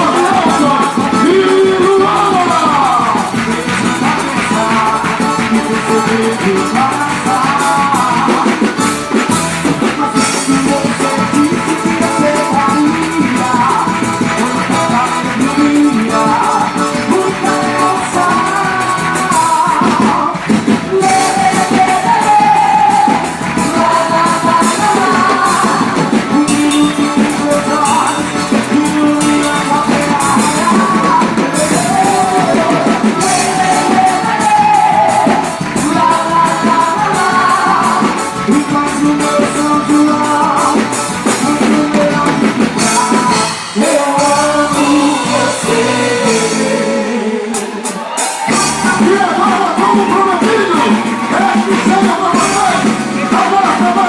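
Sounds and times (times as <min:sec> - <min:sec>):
shaker and tambourine beat: 0:00.0 - 0:46.8
festive band music: 0:00.0 - 0:54.0.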